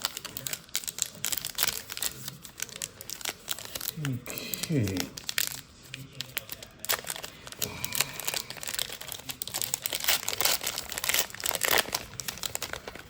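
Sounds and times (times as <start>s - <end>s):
trading cards rustling and snapping: 0.0s - 13.0s.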